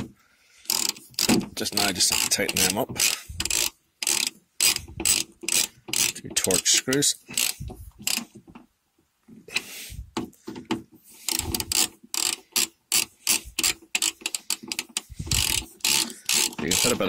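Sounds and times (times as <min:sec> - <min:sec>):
ratcheting screwdriver clicking: 0:00.0 - 0:08.4, 0:11.3 - 0:17.0.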